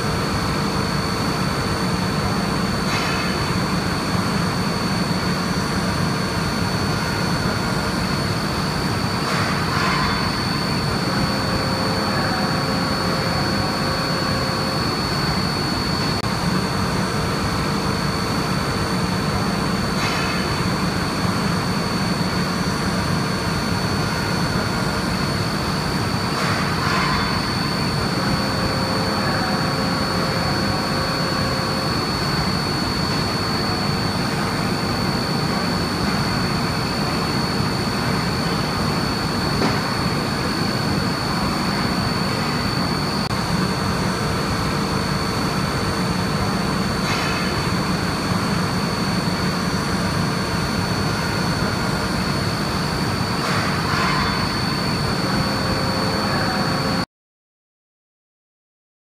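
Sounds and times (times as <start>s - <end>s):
high machine whine: 0.0s - 57.1s.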